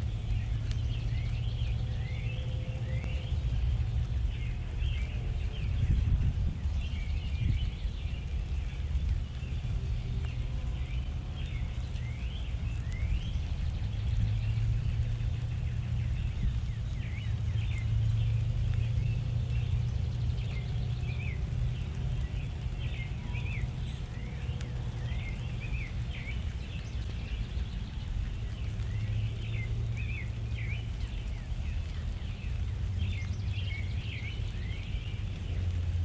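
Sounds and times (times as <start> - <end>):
small birds chirping: 0.0 - 36.0
steady low rumble: 0.0 - 36.0.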